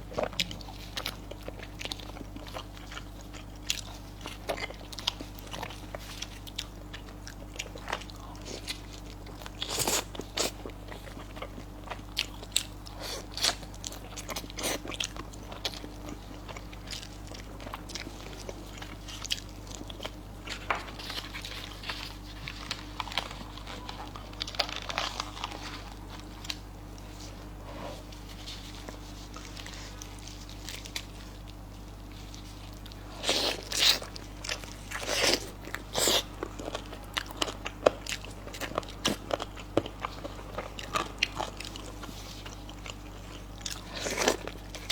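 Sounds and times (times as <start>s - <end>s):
chewing and biting: 0.0s - 27.2s, 28.2s - 44.9s.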